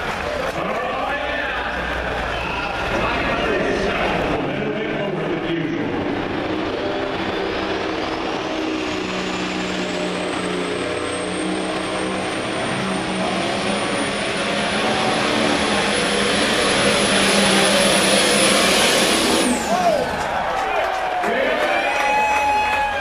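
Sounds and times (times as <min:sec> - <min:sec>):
diesel engine running hard: 0:00.0 - 0:20.4
high turbo whine: 0:01.0 - 0:20.4.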